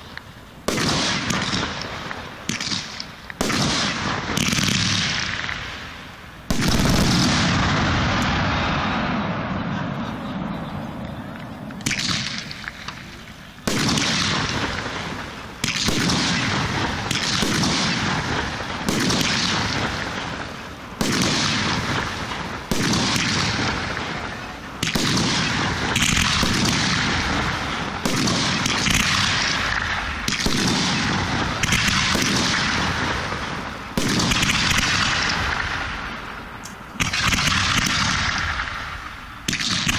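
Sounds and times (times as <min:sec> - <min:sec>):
fireworks shells booming: 0:00.0 - 0:39.9.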